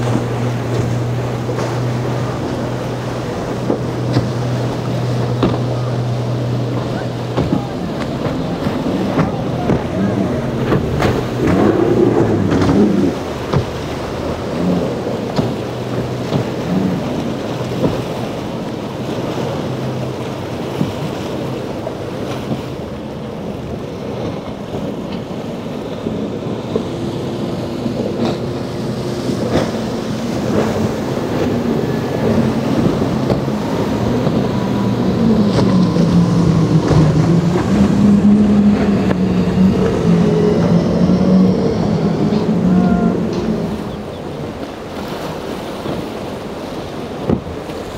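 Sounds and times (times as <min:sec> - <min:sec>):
outboard motors droning: 0:00.0 - 0:47.9
rushing water and spray: 0:00.0 - 0:47.9
wind buffeting microphone: 0:00.0 - 0:47.9.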